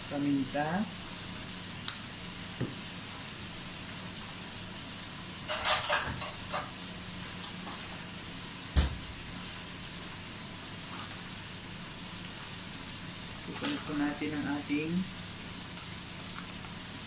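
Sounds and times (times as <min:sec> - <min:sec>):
chicken wings sizzling in a pot: 0:00.0 - 0:17.0.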